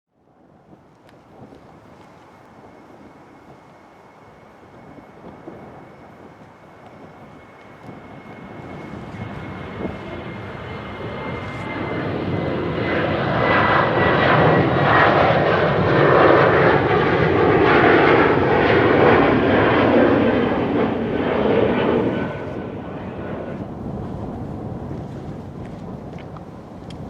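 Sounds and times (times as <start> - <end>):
jet engines at takeoff: 0.2 - 27.0.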